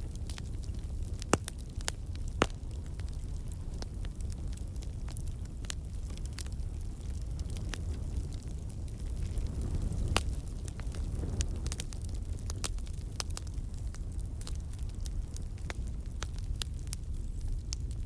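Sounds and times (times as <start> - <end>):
campfire flames rumbling: 0.0 - 18.0
logs crackling and popping: 0.0 - 18.0.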